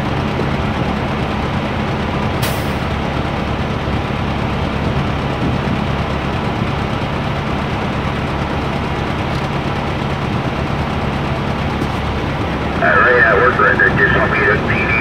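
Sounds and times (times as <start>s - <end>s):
large engine idling: 0.0s - 15.0s.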